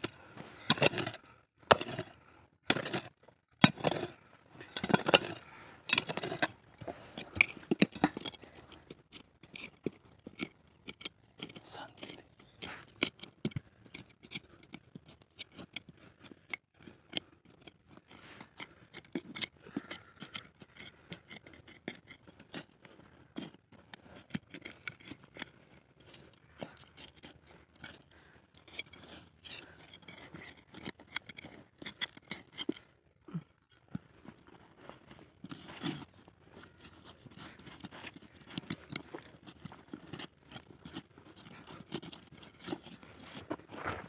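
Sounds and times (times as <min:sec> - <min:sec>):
trowel scraping stony soil: 0:00.0 - 0:44.0.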